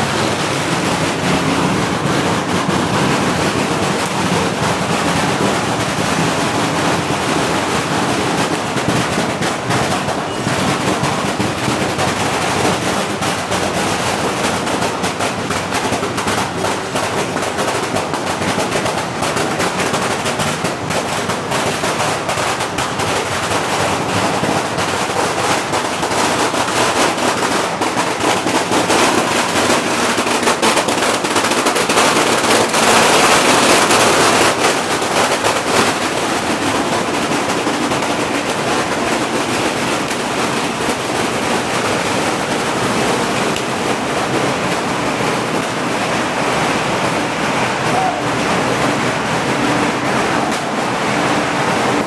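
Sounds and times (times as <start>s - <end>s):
firecrackers banging: 0.0s - 52.0s.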